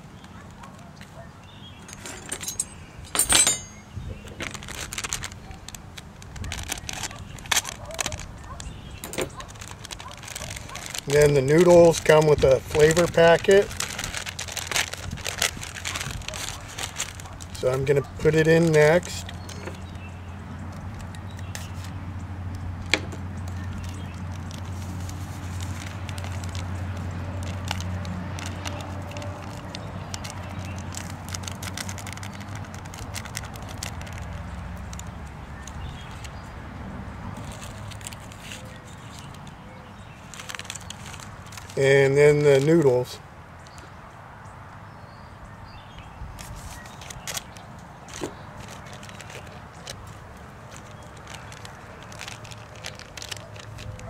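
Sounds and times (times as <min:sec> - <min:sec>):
foil packet crinkling: 0:03.6 - 0:36.4, 0:37.3 - 0:43.1, 0:46.4 - 0:54.0.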